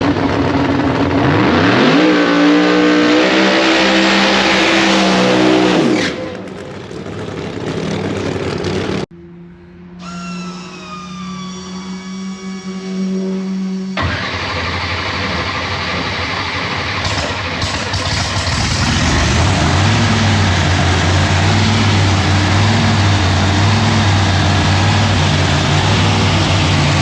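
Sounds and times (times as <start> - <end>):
engine running steadily: 0.0 - 3.6, 4.3 - 27.0
race car engine at full throttle: 0.0 - 27.0.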